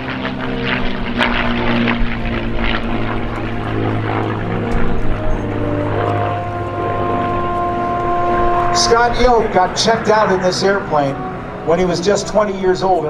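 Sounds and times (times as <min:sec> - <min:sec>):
propeller plane engine running: 0:00.0 - 0:13.0.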